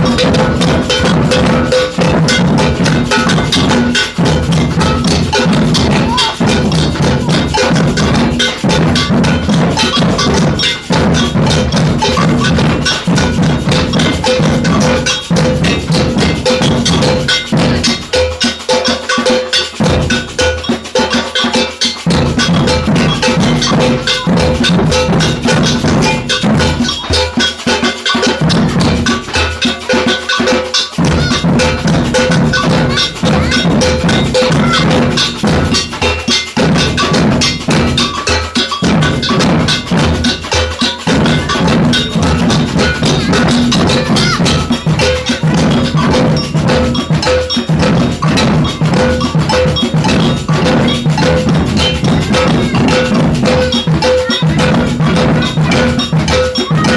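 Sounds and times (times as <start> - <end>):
bass drums and snare drums: 0.0 - 56.9
metal bell clanking: 0.0 - 56.9.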